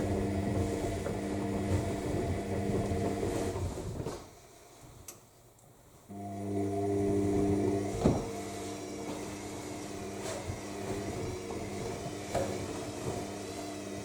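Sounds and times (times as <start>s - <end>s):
washing machine motor humming: 0.0s - 4.7s, 6.1s - 14.0s.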